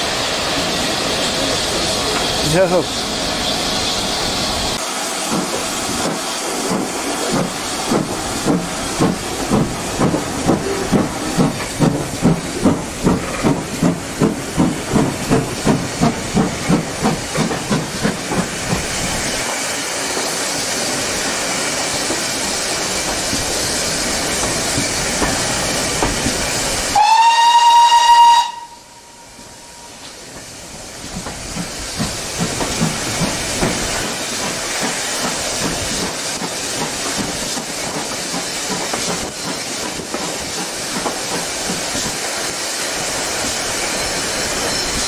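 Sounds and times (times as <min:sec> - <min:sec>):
steam hissing: 0:00.0 - 0:45.0
steam locomotive chuffing: 0:00.0 - 0:45.0.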